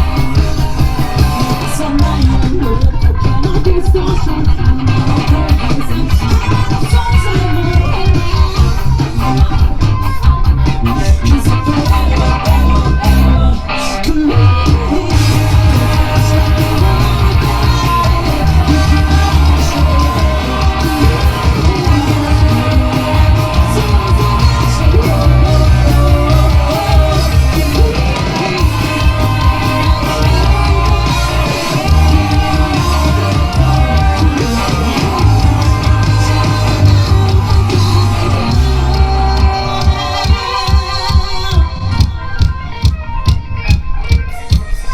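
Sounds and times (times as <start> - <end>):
rock band playing: 0.0 - 44.9
vocals singing: 0.0 - 44.9.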